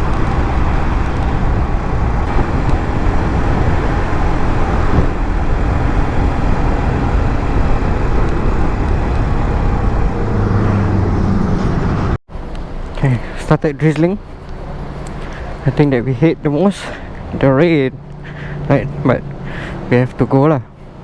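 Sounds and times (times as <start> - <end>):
low hum: 0.0 - 21.0
wind and road noise: 0.0 - 21.0.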